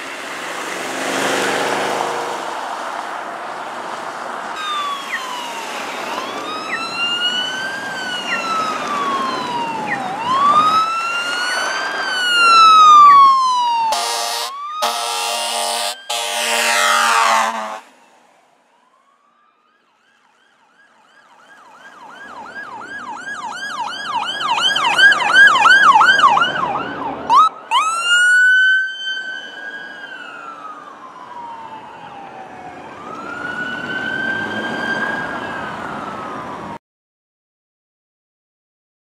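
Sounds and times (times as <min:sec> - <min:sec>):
siren wail rising and falling: 0:04.6 - 0:36.8
siren yelp: 0:04.6 - 0:36.8.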